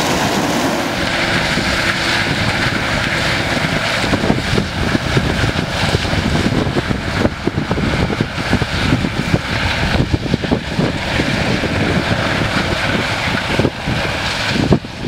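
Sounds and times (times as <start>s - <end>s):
combine harvester drone: 0.0s - 15.0s.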